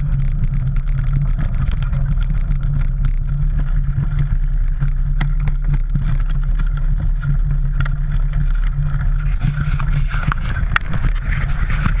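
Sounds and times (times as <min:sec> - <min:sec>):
bike clicks and rattles over leaves: 0:00.0 - 0:12.0
bike rolling low rumble: 0:00.0 - 0:12.0.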